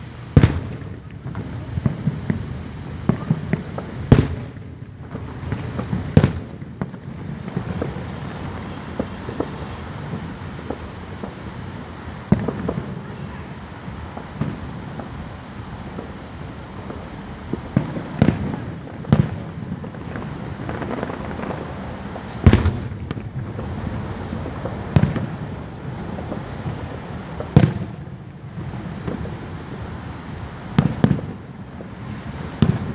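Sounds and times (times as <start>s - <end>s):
fireworks booms and bangs: 0.3s - 32.9s.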